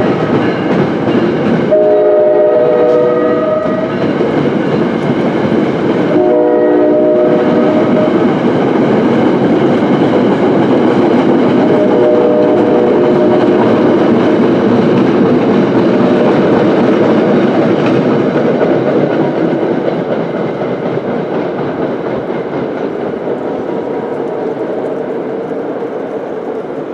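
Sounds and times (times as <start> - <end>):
train rumbling and clattering: 0.0 - 26.9.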